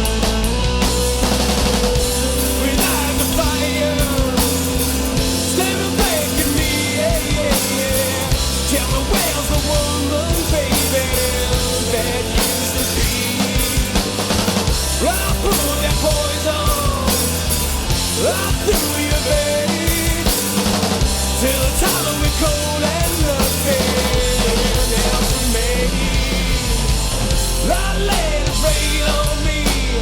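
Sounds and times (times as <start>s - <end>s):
gliding lead guitar line: 0.0s - 30.0s
rock band instrumental: 0.0s - 30.0s.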